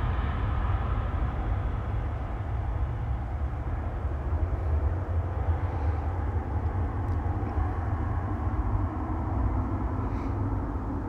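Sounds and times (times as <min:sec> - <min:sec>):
jet engines low rumble: 0:00.0 - 0:11.0.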